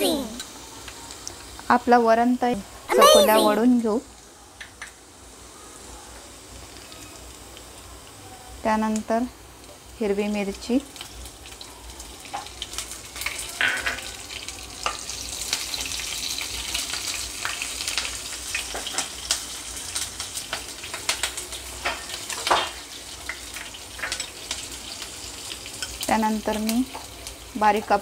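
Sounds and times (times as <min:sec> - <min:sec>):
chillies sizzling in hot oil: 0:00.0 - 0:28.0.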